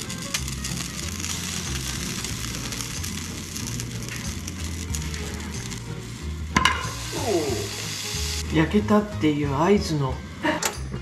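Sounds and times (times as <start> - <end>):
food sizzling in frying: 0.0 - 9.1
background music with bass line: 0.0 - 11.0.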